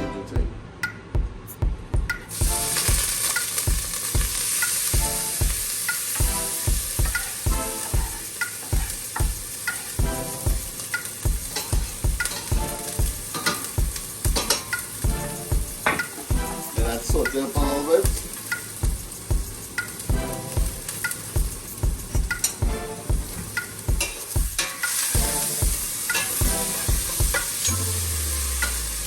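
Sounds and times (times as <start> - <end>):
background music with steady beat: 0.0 - 29.0
vegetables sizzling in hot oil: 2.3 - 29.0.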